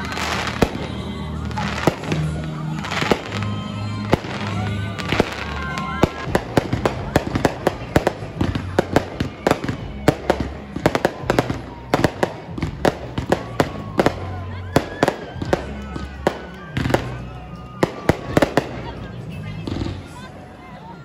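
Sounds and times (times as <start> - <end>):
fireworks bangs and crackles: 0.0 - 20.6
music playing: 0.0 - 21.0.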